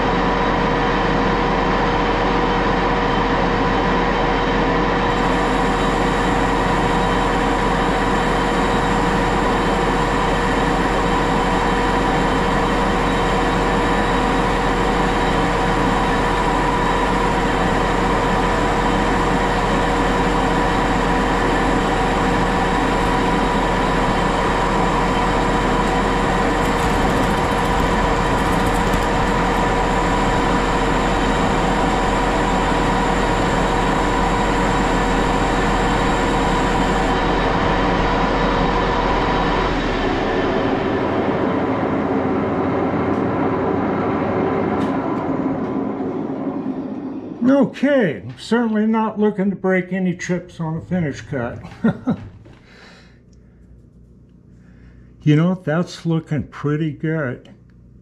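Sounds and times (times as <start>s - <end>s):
lathe running with steady whine: 0.0s - 47.6s.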